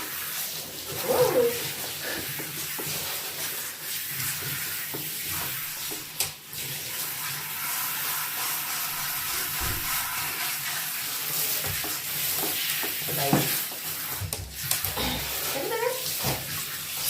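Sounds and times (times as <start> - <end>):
shower spraying water: 0.0 - 17.0.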